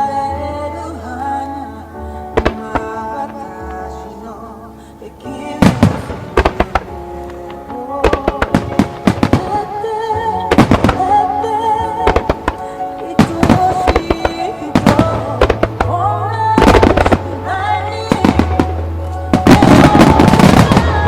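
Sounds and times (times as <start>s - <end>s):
music playing: 0.0s - 21.0s
fireworks bursting: 2.3s - 4.4s, 5.2s - 21.0s.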